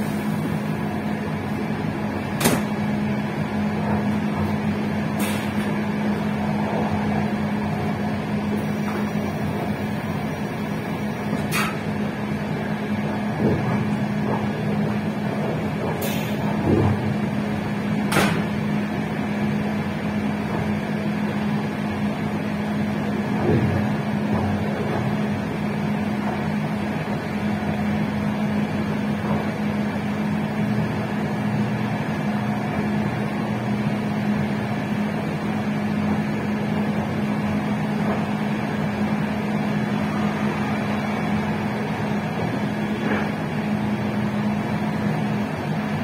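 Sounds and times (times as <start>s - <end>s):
constant hum: 0.0s - 46.0s
train wheels rumbling on rails: 0.0s - 46.0s.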